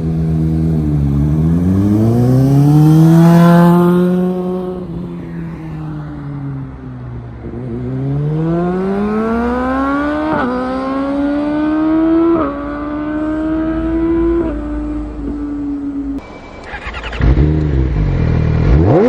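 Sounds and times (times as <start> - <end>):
motorcycle engine accelerating hard: 0.0 - 5.2, 7.4 - 19.0.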